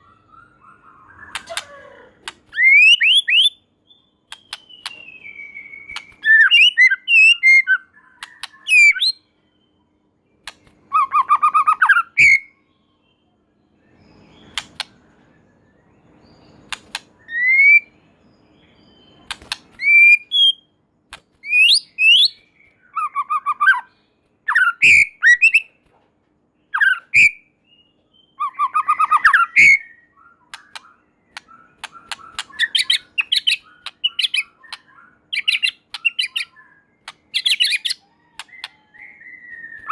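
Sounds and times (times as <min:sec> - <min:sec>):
bird singing whistles and trills: 0:00.0 - 0:20.8, 0:21.4 - 0:25.8, 0:26.6 - 0:39.9.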